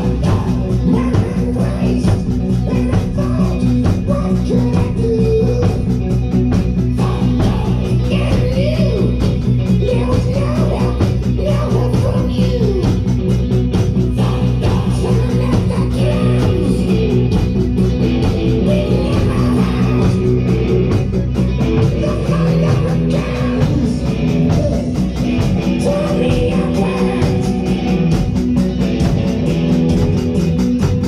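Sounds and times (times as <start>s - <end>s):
drum kit playing: 0.0s - 31.0s
hard rock backing track: 0.0s - 31.0s.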